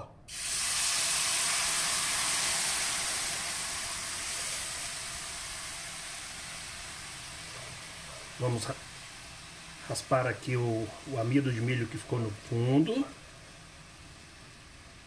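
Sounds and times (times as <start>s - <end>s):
sauce sizzling in a frying pan: 0.3s - 15.0s.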